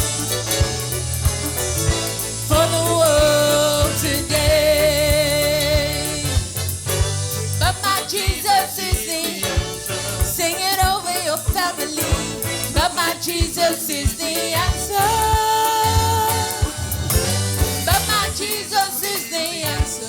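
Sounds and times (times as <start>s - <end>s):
gospel band with bass and drums: 0.0s - 20.0s
person singing with vibrato: 1.9s - 20.0s.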